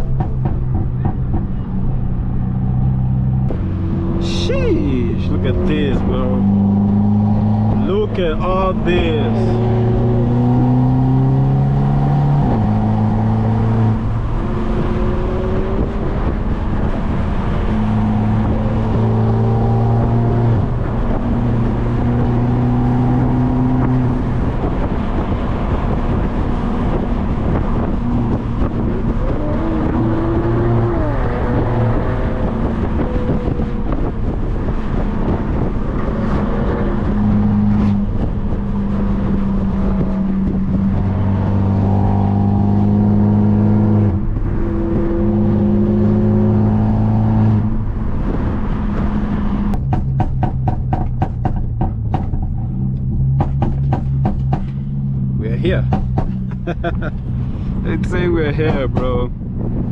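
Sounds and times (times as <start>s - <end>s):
car exhaust droning: 0.0s - 59.9s.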